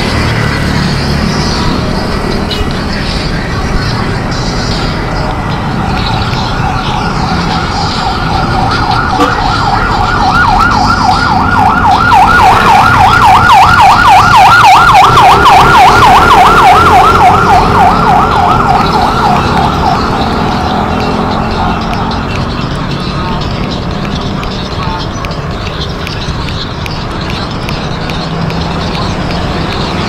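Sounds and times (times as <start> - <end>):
low wind: 0.0 - 30.0
road rumble: 0.0 - 30.0
emergency siren yelping: 0.4 - 30.0.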